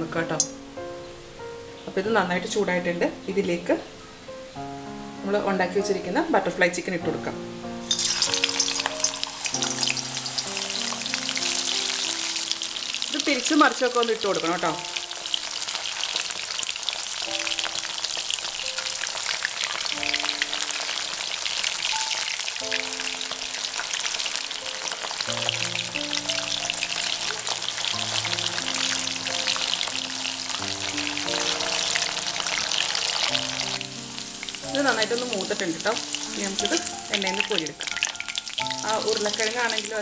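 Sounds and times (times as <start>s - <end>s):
soft background music: 0.0s - 40.0s
food sizzling in hot oil: 7.8s - 40.0s.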